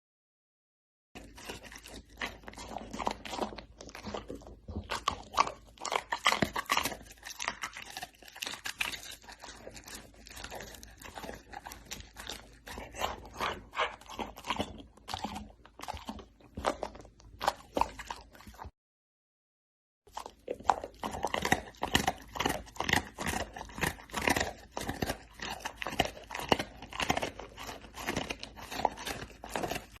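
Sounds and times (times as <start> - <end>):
dog chewing and crunching food: 1.2 - 18.7, 20.1 - 30.0.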